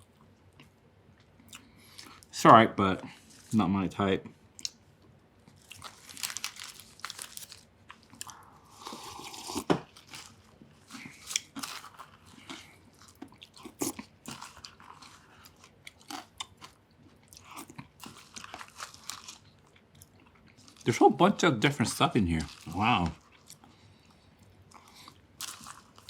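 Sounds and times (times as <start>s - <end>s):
person chewing food: 0.0s - 2.3s, 4.4s - 20.9s, 22.3s - 26.0s.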